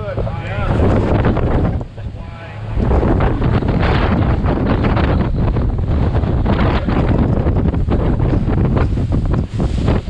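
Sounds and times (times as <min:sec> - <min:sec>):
waves against boat: 0:00.0 - 0:10.0
wind buffeting microphone: 0:00.0 - 0:10.0.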